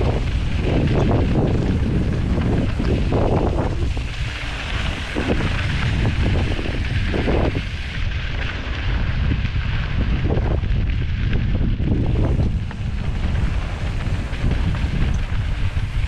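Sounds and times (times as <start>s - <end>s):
tyres crunching on loose dirt: 0.0s - 16.0s
wind buffeting microphone: 0.0s - 16.0s.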